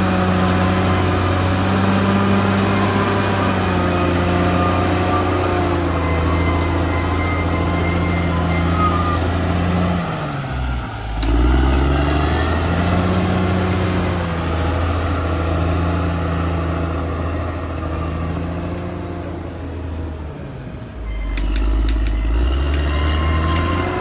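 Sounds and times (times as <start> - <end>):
bulldozer diesel engine under load: 0.0 - 24.0.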